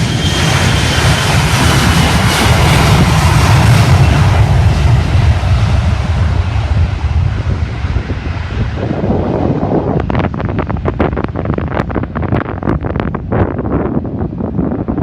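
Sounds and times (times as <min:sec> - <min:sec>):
aircraft rumble: 0:00.0 - 0:15.0
wind buffeting microphone: 0:00.0 - 0:15.0.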